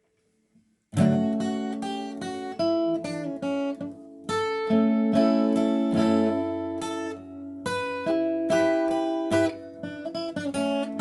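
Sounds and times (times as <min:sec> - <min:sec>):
acoustic guitar melody and chords: 0:00.9 - 0:11.0.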